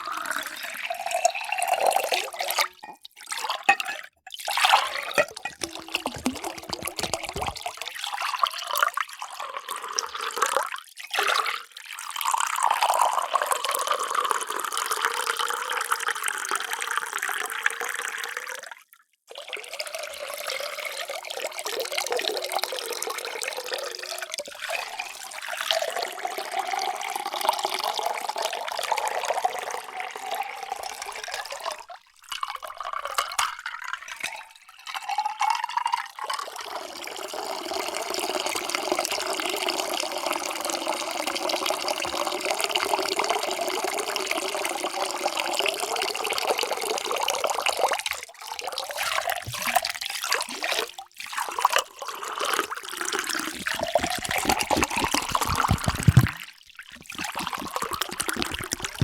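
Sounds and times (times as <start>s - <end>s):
water pouring into container: 0.0s - 59.0s.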